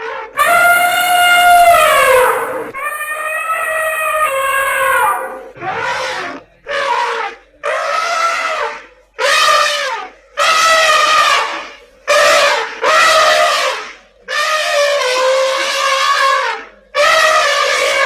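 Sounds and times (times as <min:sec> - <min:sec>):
elephant trumpeting: 0:00.0 - 0:18.0.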